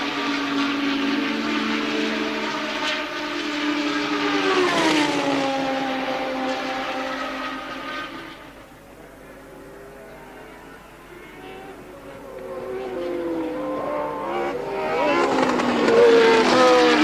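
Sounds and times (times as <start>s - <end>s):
race car engine passing by: 0.0s - 17.0s.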